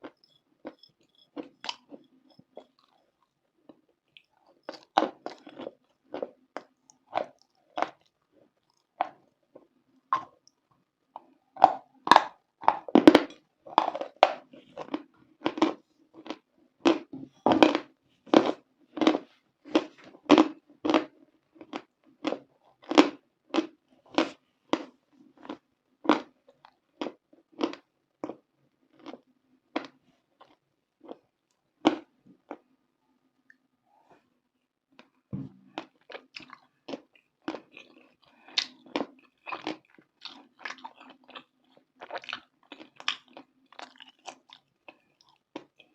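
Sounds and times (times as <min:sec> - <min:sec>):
person chewing crunchy food: 0:00.0 - 0:10.5, 0:11.2 - 0:32.7, 0:35.0 - 0:45.9.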